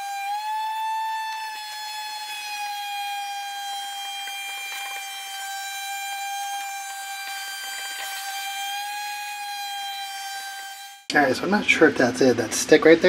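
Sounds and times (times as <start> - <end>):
shop vacuum motor whining: 0.0 - 11.2.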